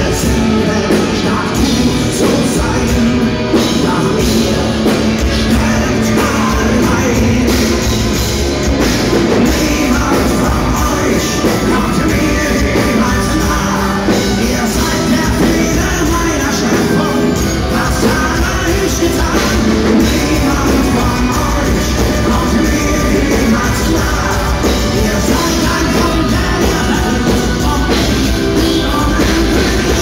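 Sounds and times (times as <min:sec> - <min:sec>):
distorted electric guitars: 0:00.0 - 0:30.0
live metal band playing: 0:00.0 - 0:30.0
person singing: 0:00.0 - 0:30.0.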